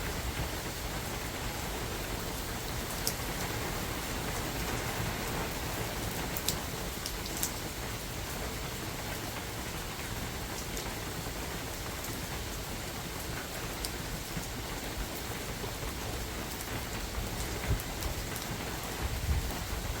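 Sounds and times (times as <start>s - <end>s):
steady rain in forest: 0.0s - 20.0s.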